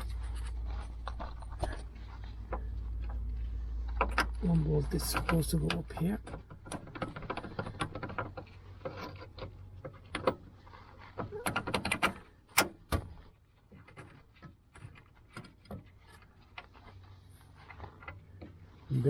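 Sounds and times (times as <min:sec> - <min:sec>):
metal clinks and knocks: 0:00.0 - 0:16.7.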